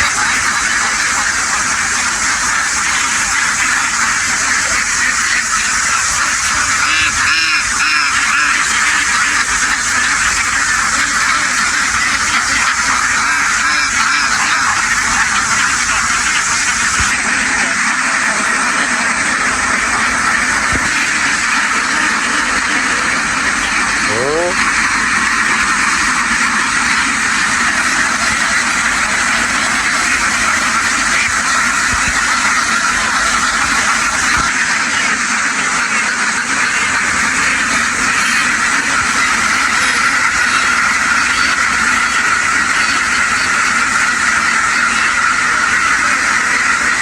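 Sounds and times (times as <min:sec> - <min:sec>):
flock of ducks quacking: 0:00.0 - 0:47.0.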